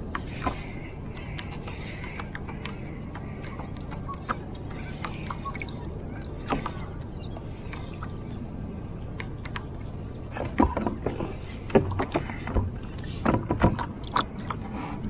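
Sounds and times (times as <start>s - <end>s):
small water sounds: 0.0s - 15.0s
steady low rumble: 0.0s - 15.0s.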